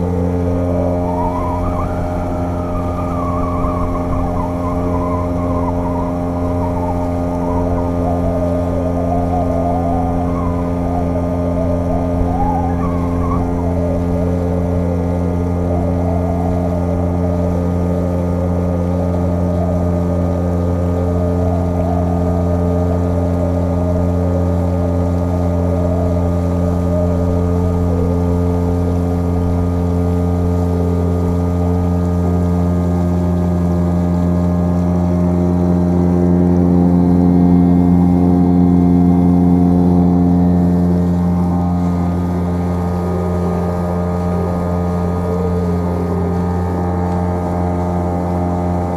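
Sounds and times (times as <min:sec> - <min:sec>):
outboard motor running: 0:00.0 - 0:48.9
water rushing past hull: 0:00.0 - 0:48.9.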